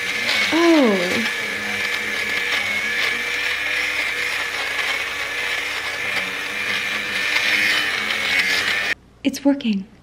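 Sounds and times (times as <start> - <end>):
fabric shaver motor whine: 0.0 - 9.0.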